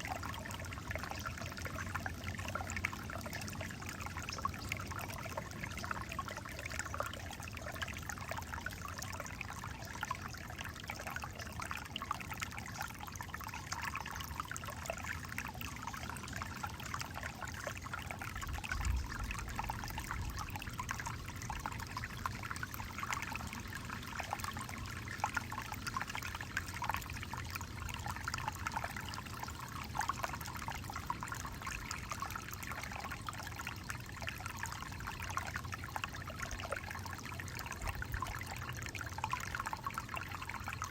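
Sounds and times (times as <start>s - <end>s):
creek water babbling over rocks: 0.0s - 40.9s.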